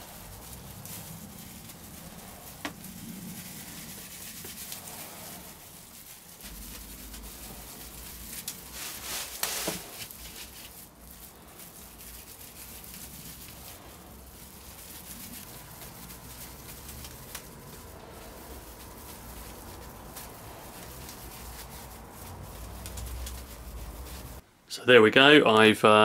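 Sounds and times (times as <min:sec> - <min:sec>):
paintbrush dabbing resin: 0:00.0 - 0:24.4
rustling of gloved hands and plastic: 0:00.0 - 0:24.4.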